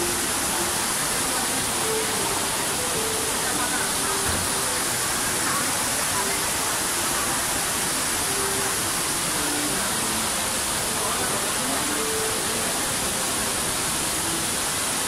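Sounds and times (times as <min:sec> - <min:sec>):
faint voices: 0:00.0 - 0:15.0
indoor waterfall pouring: 0:00.0 - 0:15.0.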